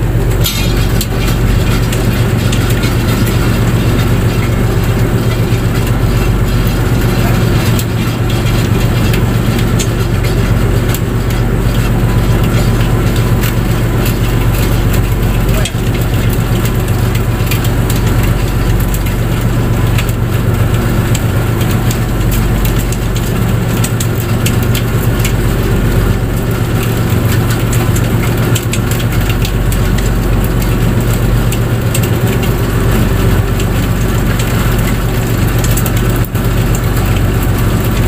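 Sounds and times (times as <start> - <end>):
boat engine running: 0.0 - 38.0.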